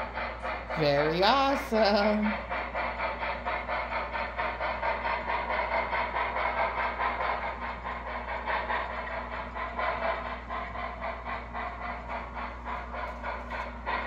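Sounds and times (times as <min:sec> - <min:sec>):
model steam locomotive clattering: 0:00.0 - 0:14.0
steady low hum: 0:00.0 - 0:14.0.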